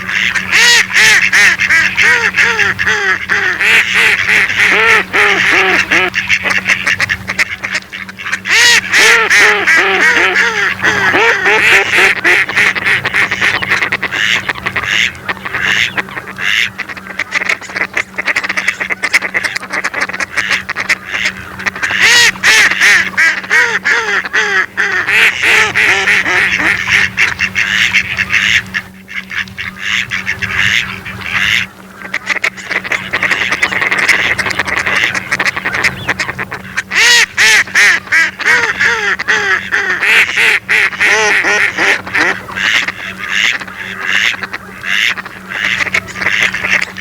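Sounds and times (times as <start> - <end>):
ducks quacking: 0.0 - 47.0
low hum: 0.0 - 47.0.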